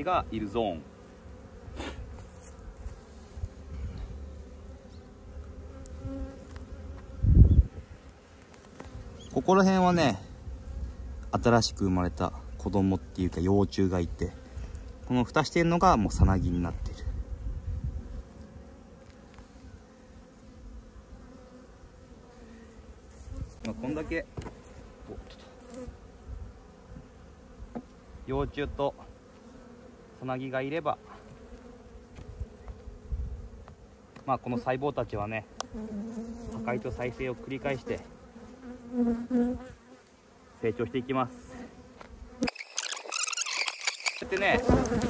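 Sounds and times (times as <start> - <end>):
bees buzzing: 0.0 - 45.0
honeybees humming: 0.0 - 45.0.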